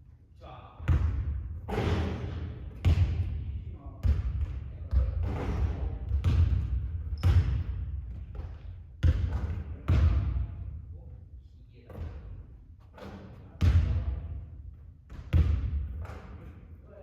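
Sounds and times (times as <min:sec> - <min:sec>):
basketball bouncing on court: 0:00.8 - 0:10.7, 0:11.9 - 0:16.6.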